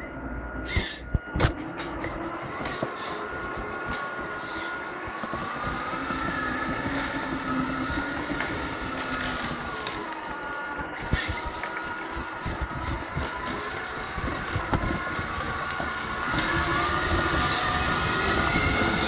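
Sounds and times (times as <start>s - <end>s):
electric motor whine: 0.0s - 19.0s
toy truck rumbling and rattling: 0.7s - 19.0s.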